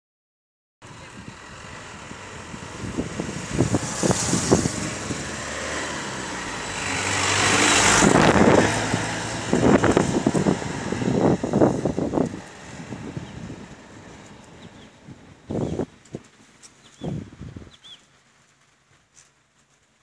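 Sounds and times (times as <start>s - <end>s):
motor vehicle running: 0.8s - 17.5s.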